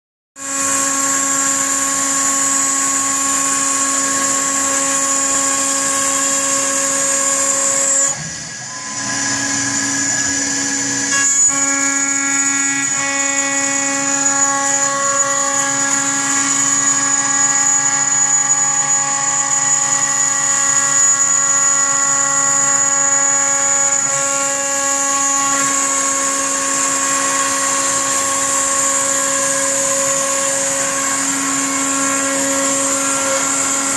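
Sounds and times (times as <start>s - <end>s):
machine spindle whine and cutting: 0.4s - 33.9s.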